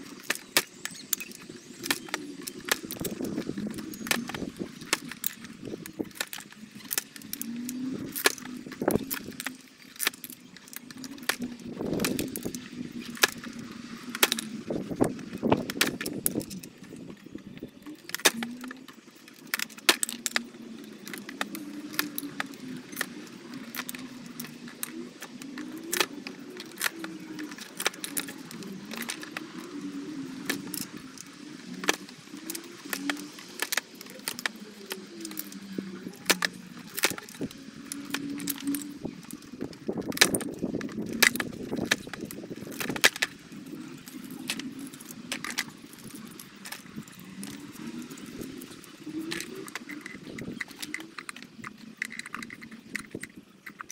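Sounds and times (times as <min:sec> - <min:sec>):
stem pieces and tools clattering: 0:00.0 - 0:53.9.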